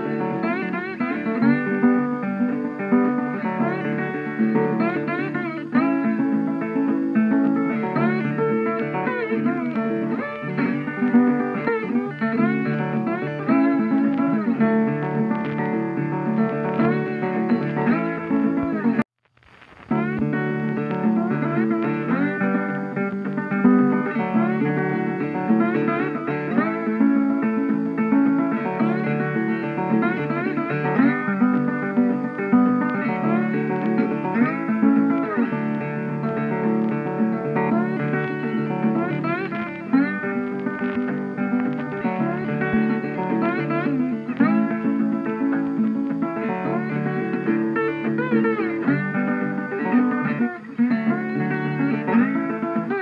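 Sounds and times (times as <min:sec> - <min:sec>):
guitar background music: 0:00.0 - 0:53.0.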